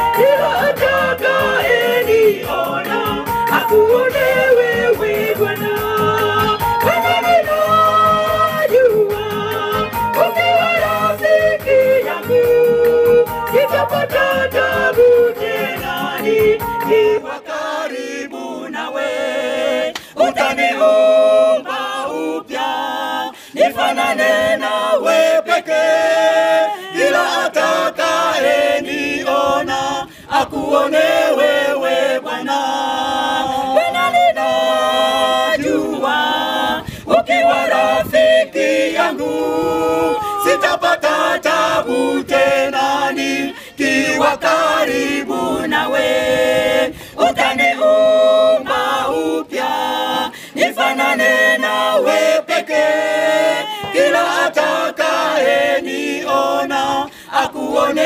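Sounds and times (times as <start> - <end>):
choir singing a hymn a cappella: 0.0 - 58.0.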